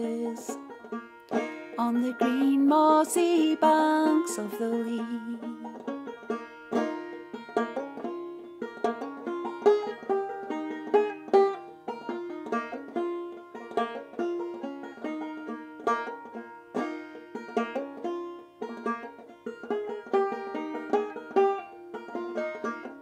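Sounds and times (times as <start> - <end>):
plucked banjo: 0.0 - 23.0.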